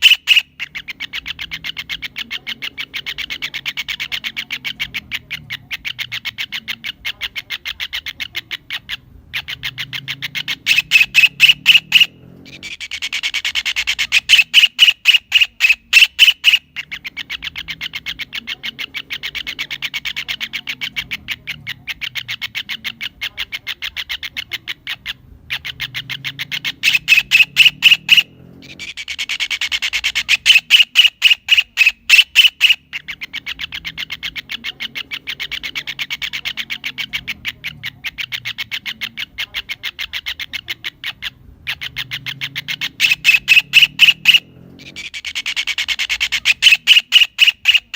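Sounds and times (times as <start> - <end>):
kingfisher calling: 0.0 - 47.9.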